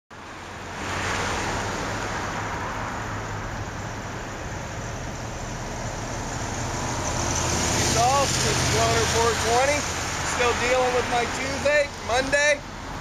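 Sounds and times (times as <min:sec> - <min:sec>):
pickup truck driving past: 0:00.2 - 0:13.0.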